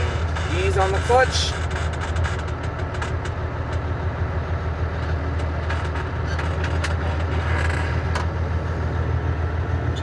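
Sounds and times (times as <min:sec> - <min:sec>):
diesel engine low drone: 0:00.0 - 0:10.0.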